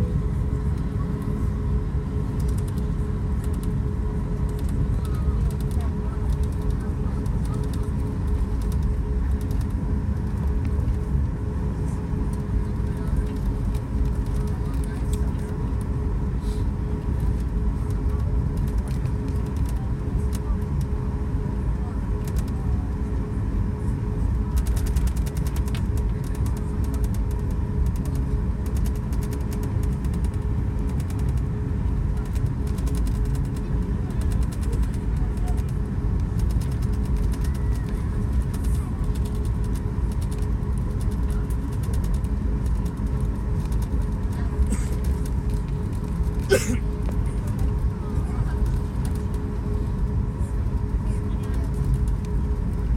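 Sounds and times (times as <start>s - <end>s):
aircraft cabin rumble: 0.0s - 52.9s
faint jet engine hum: 0.0s - 52.9s.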